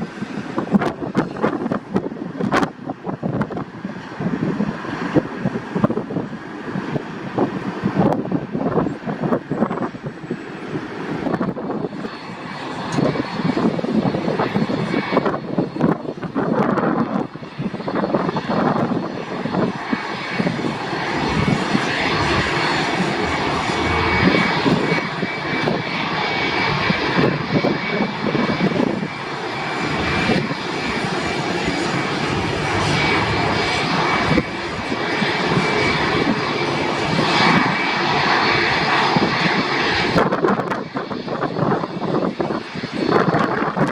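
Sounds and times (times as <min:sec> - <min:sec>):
airliner engines running: 0:00.0 - 0:43.9.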